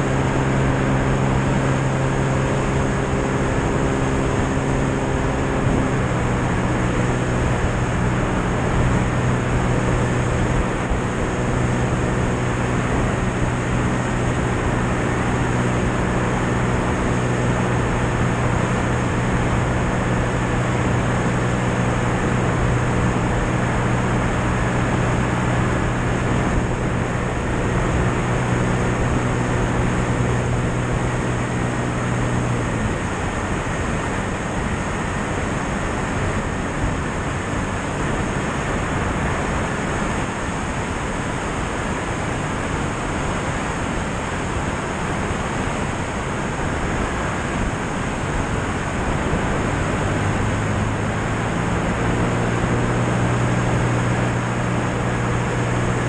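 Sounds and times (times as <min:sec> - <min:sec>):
plane engine and propeller drone: 0:00.0 - 0:56.0
rush of airflow: 0:00.0 - 0:56.0.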